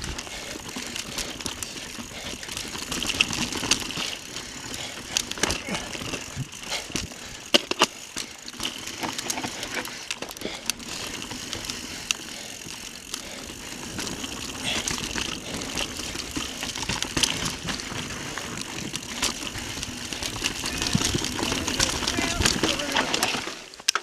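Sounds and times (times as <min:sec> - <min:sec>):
bike knocks and rattles: 0:00.0 - 0:11.6, 0:13.8 - 0:24.0
bike tyres crunching on dirt: 0:00.0 - 0:24.0.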